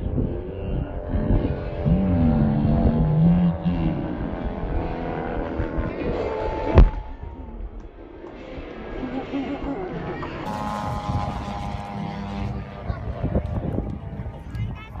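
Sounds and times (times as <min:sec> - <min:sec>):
engine revving: 0:00.0 - 0:08.0, 0:10.2 - 0:15.0
rumbling background: 0:00.0 - 0:15.0.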